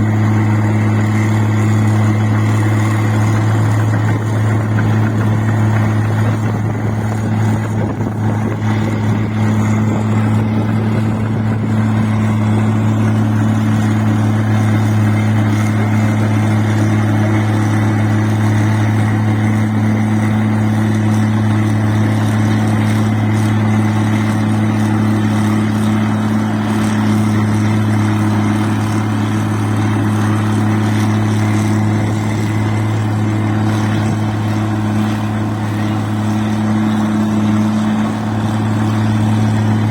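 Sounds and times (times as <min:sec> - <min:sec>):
rice machine engine hum: 0:00.0 - 0:39.9.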